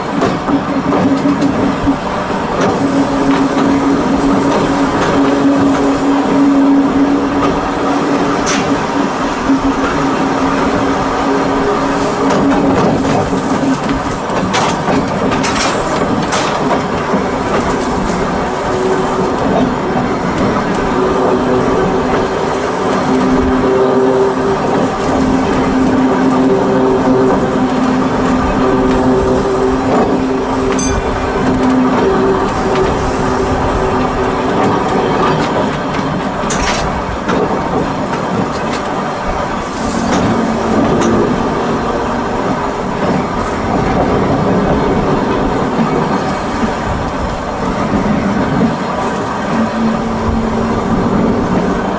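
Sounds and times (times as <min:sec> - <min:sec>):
train running noise: 0:00.0 - 0:51.9
wheels clicking over rail joints: 0:00.0 - 0:51.9.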